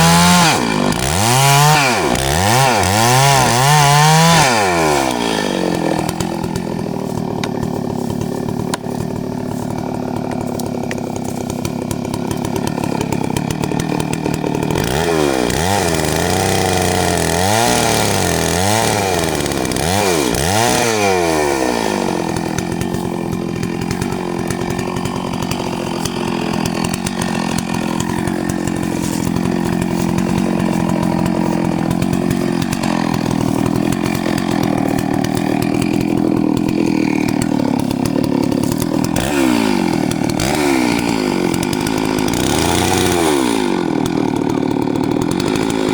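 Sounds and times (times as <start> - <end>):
chainsaw engine revving: 0.0 - 45.9.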